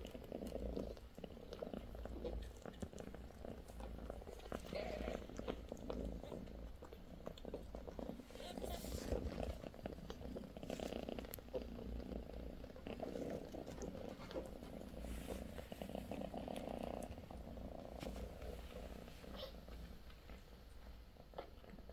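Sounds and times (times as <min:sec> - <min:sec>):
cat purring: 0:00.0 - 0:21.9.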